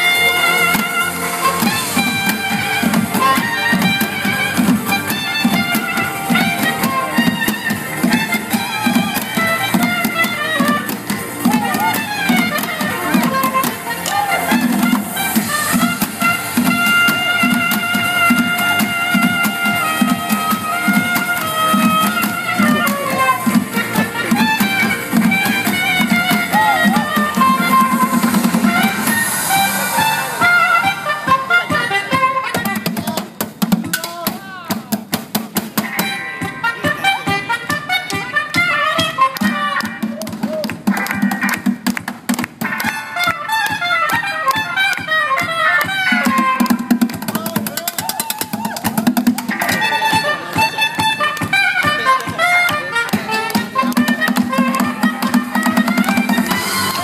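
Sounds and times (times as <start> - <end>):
saxophone melody: 0.0 - 33.4, 35.8 - 42.0, 42.6 - 47.6, 48.9 - 57.0
drums on plastic barrels and tins: 0.0 - 57.0.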